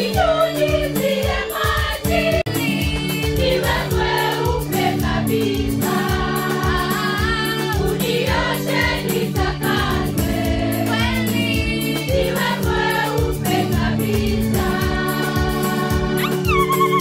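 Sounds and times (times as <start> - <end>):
choir singing gospel song: 0.0 - 16.4.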